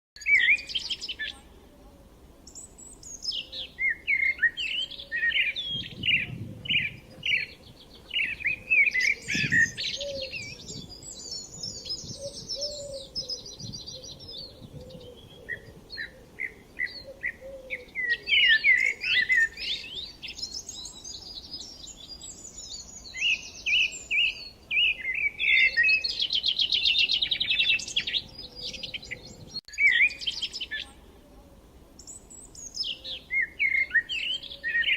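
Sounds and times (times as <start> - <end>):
songbirds chirping and trilling: 0.2 - 34.9.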